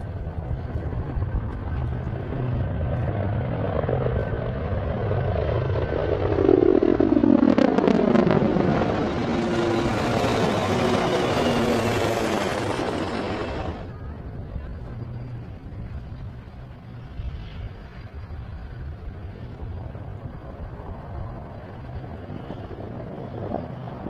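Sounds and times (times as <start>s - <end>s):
helicopter rotor beat and engine: 0.0s - 24.0s.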